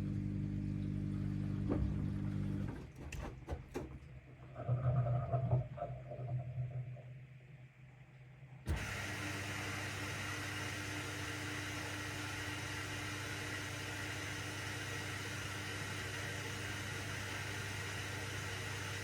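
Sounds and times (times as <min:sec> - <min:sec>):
washing machine pump humming: 0:00.0 - 0:19.0.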